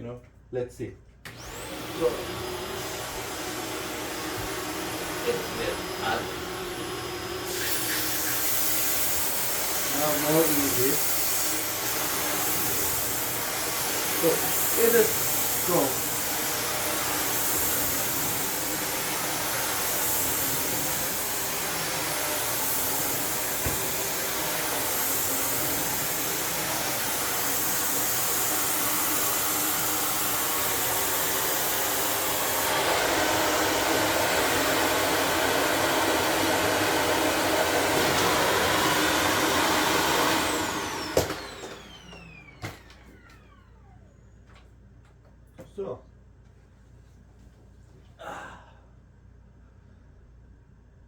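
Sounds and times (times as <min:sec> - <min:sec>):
vacuum cleaner running on carpet: 0:01.3 - 0:44.2
vacuum motor spinning down: 0:01.3 - 0:44.5.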